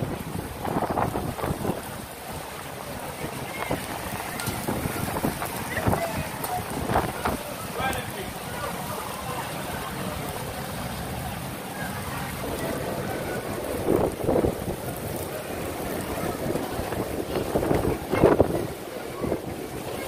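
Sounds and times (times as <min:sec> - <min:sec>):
wind gusts hitting microphone: 0:00.0 - 0:09.0, 0:09.6 - 0:20.0
rain falling: 0:00.0 - 0:20.0.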